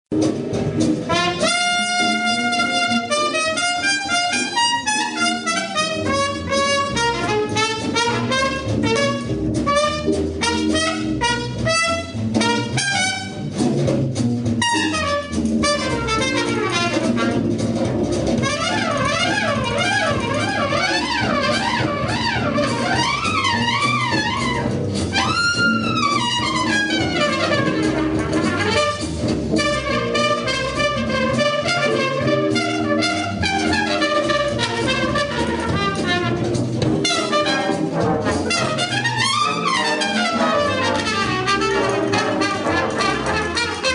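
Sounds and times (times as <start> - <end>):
drums and cymbals: 0.1 - 43.9
jazz band music: 0.1 - 43.9
brass instrument playing quick runs: 0.7 - 13.6, 14.5 - 43.9.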